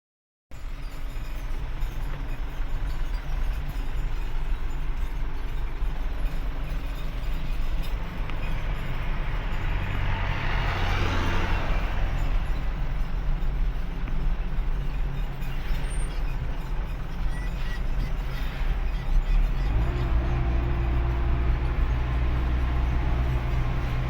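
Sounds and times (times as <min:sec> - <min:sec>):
truck engine rumbling: 0:00.5 - 0:24.0.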